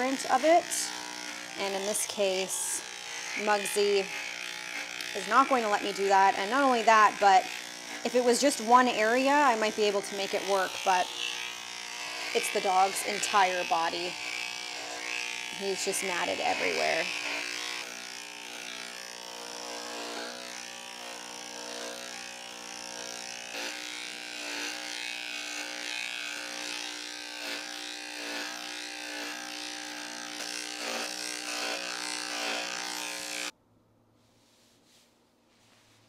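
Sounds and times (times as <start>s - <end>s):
electric pet clipper humming: 0.0s - 33.6s.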